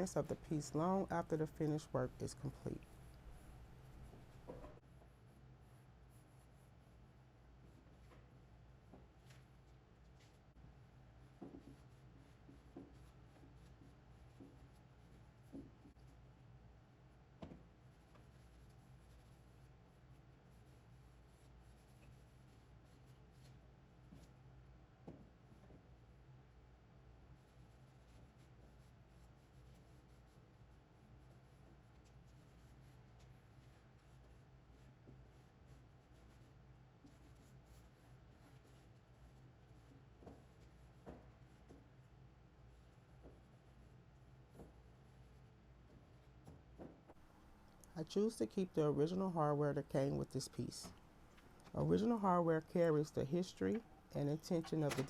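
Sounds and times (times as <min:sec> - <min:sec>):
soft rubbing sounds: 0:00.0 - 0:17.0, 0:17.6 - 0:24.7, 0:27.2 - 0:54.9.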